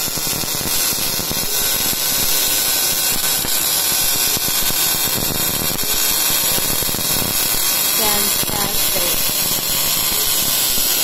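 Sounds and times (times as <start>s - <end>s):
welding arc crackling sizzle: 0.0s - 11.0s.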